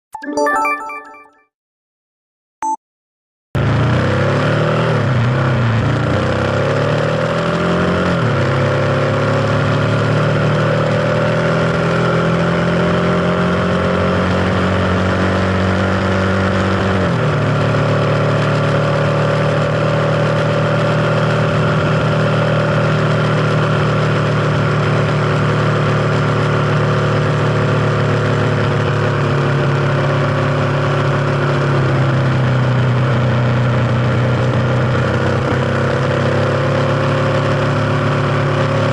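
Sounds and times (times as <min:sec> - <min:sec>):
motorcycle engine accelerating: 0:03.6 - 0:38.9.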